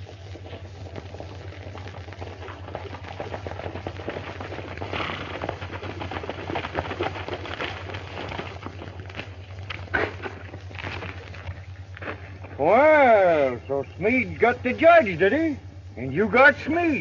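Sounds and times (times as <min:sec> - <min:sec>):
horses galloping on dirt: 0:00.0 - 0:17.0
low film soundtrack hum: 0:00.0 - 0:17.0.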